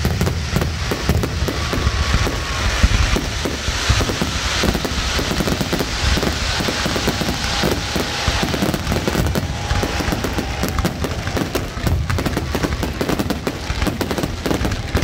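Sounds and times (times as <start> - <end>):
fireworks booms and crackling: 0.0 - 15.0.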